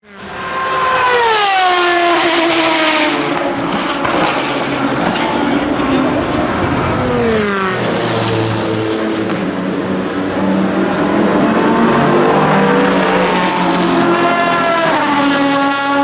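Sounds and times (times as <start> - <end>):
racing car engine accelerating: 0.1 - 16.0.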